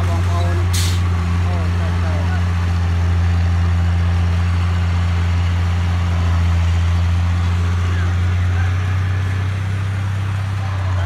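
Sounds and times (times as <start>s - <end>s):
dump truck diesel engine humming: 0.0s - 11.0s.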